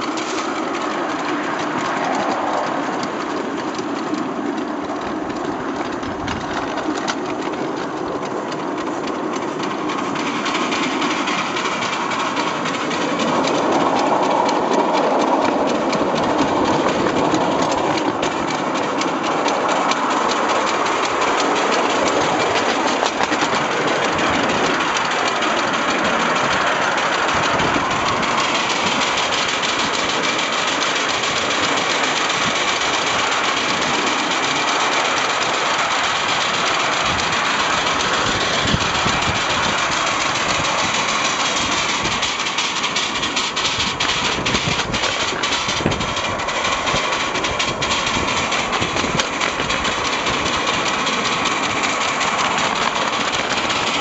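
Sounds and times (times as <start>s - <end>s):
steam locomotive running: 0.0s - 54.0s.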